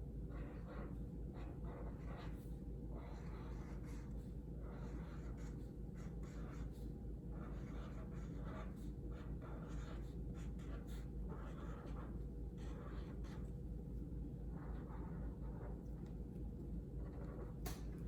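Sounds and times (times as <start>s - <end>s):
steady low hum: 0.0s - 18.0s
marker scratching on paper: 0.3s - 16.2s, 16.9s - 17.6s.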